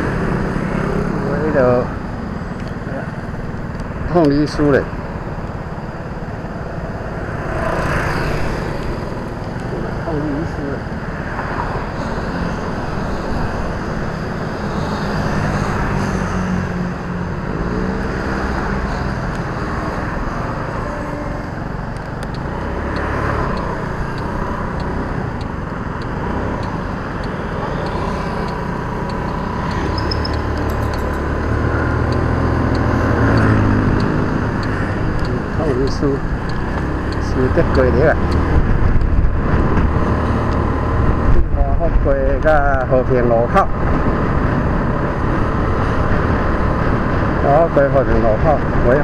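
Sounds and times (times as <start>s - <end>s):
wind and road noise: 0.0s - 49.0s.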